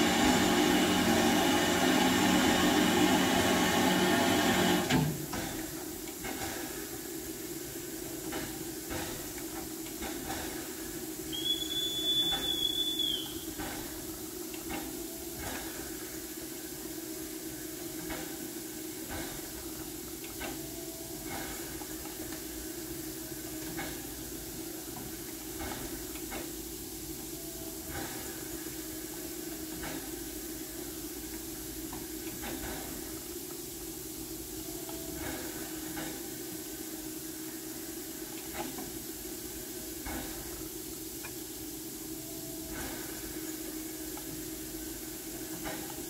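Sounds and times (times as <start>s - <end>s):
steam hissing: 0.0s - 46.0s.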